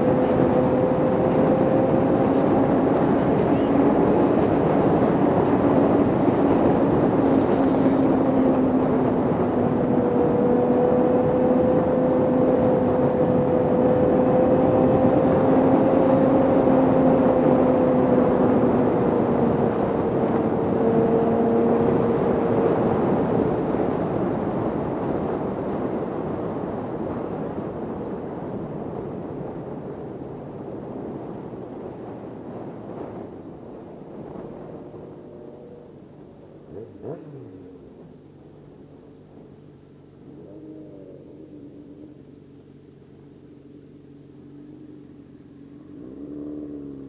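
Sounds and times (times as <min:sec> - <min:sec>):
motorcycle engine cruising: 0:00.0 - 0:47.0
wind rushing over microphone: 0:00.0 - 0:47.0.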